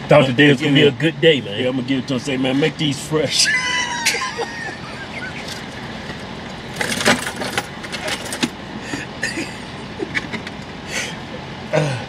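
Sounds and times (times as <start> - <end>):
vehicle cabin hum: 0.0 - 12.0.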